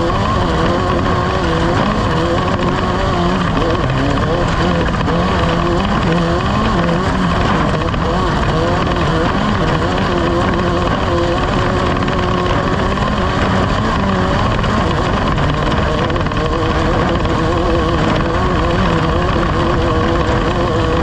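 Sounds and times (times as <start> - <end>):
loud engine noise: 0.0 - 21.0.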